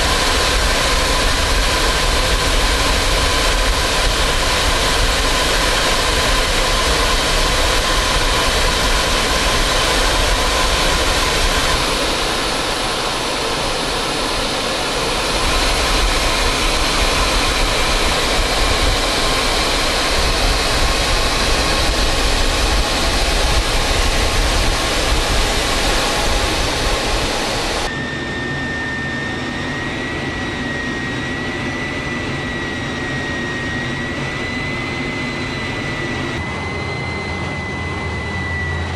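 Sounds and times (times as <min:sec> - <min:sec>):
engine whine: 0:00.0 - 0:38.9
turboprop engines running: 0:00.0 - 0:38.9.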